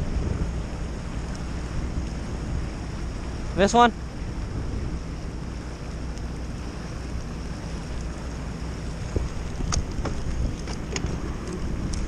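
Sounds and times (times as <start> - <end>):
river current rushing: 0.0 - 12.0
wind on microphone: 0.0 - 12.0.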